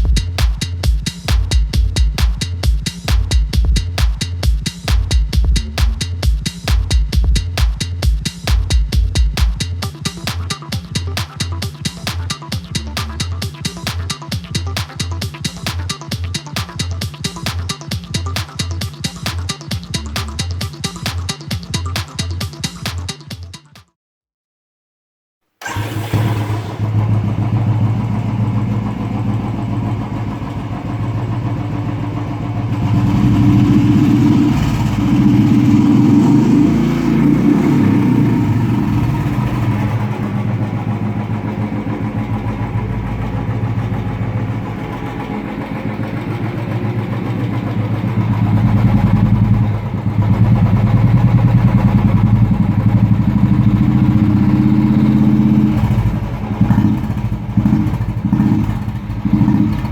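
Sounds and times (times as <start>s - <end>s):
motorcycle engine idling and revving: 0.0s - 22.4s, 25.6s - 59.9s.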